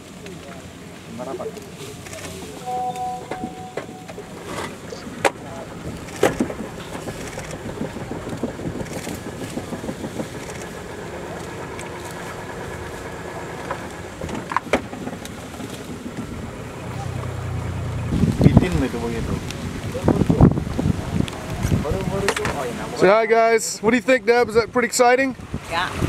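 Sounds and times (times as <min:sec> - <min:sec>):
boat motor idling: 0:00.0 - 0:23.6.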